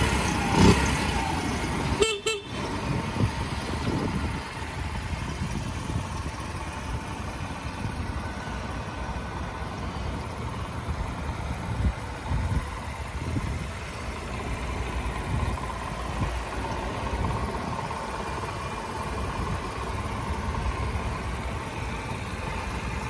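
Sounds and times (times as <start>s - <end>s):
small motorcycle engine idling: 0.0s - 23.0s.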